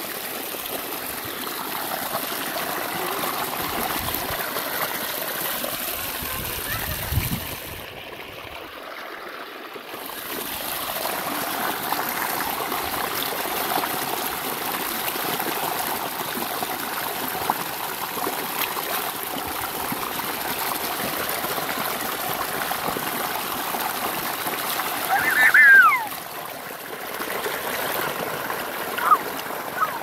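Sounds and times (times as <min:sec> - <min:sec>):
stream trickling over stones: 0:00.0 - 0:30.0.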